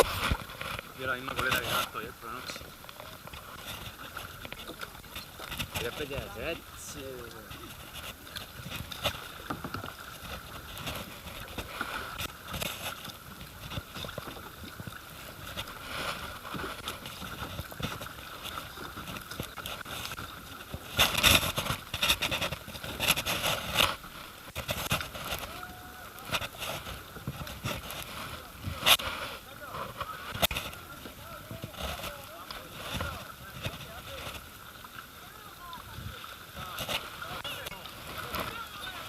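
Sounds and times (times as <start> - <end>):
paddle splashing in water: 0.0 - 39.0.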